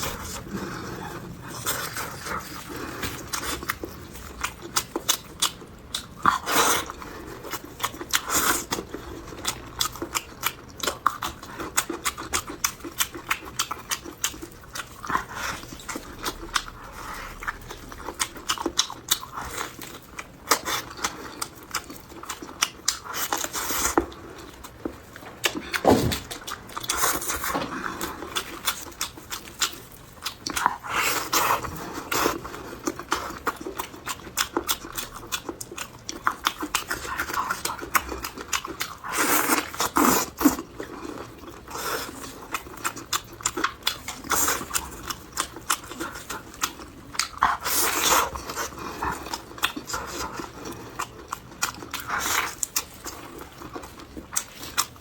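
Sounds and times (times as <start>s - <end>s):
close chewing and biting food: 0.0s - 55.0s.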